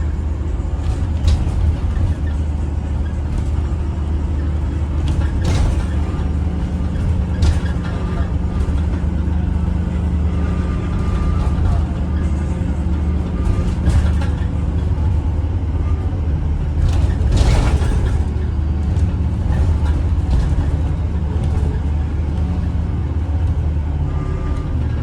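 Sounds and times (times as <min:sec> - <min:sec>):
bus engine rumbling: 0:00.0 - 0:25.0.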